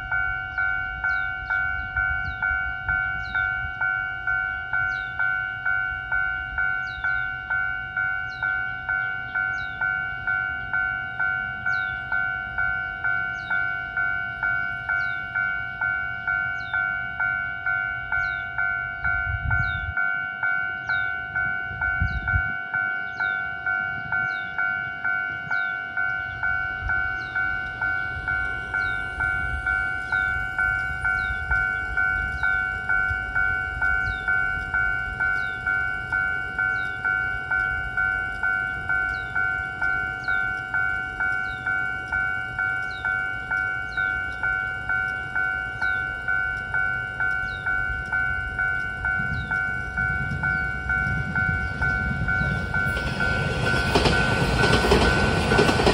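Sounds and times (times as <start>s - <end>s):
level crossing bell ringing: 0.0s - 55.9s
train rumble: 0.0s - 55.9s.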